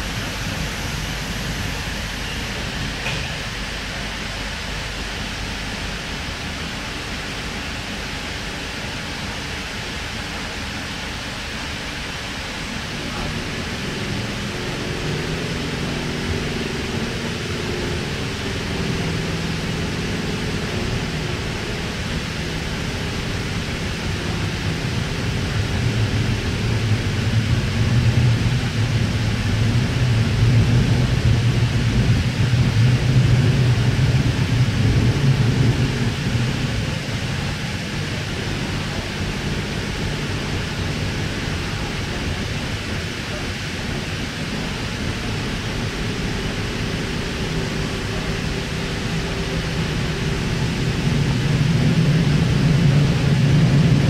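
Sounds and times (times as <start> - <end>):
low motor hum: 0.0 - 54.0
train wheels rumbling on rail: 0.0 - 54.0.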